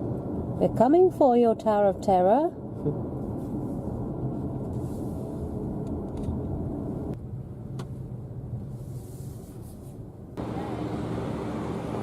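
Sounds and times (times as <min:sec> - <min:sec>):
car interior road and engine rumble: 0:00.0 - 0:12.0.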